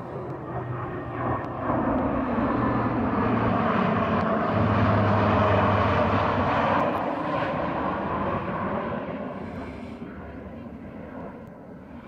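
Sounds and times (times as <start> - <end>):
propeller aircraft droning overhead: 0.0 - 12.0.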